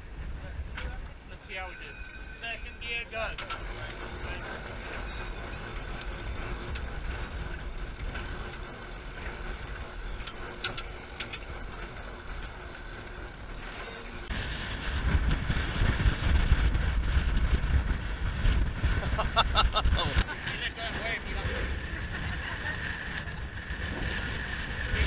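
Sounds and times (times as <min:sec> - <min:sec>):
wind and water noise: 0:00.0 - 0:25.0
wind buffeting microphone: 0:00.0 - 0:25.0.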